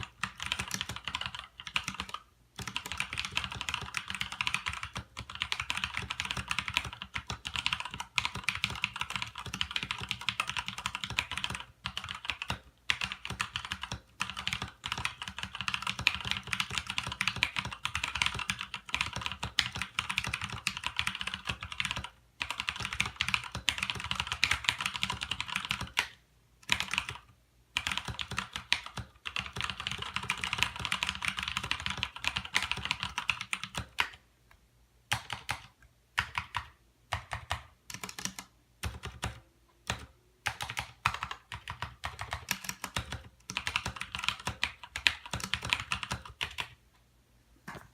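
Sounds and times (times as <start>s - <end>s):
mechanical keyboard typing: 0.0s - 34.2s, 35.1s - 46.8s.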